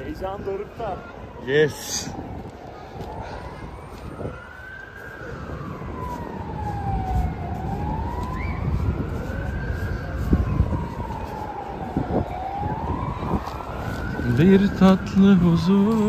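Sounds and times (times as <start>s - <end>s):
emergency vehicle siren wailing: 0.0s - 16.0s.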